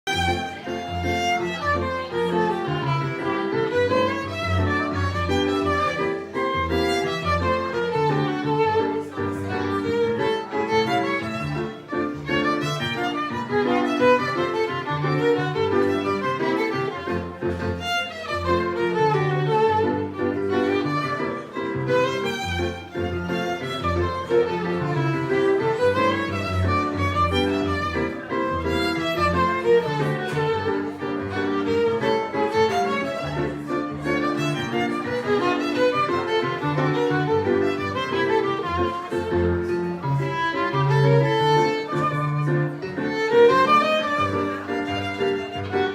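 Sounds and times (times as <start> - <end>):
piano bass and chords: 0.0 - 45.9
violin melody: 0.0 - 45.9.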